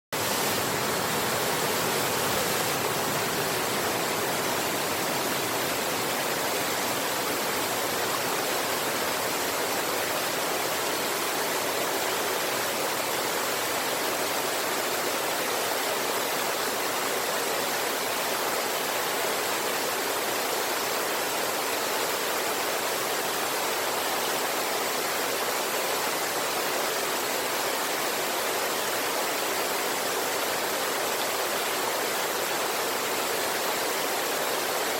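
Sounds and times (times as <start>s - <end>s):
river and waterfall rushing: 0.2s - 34.9s.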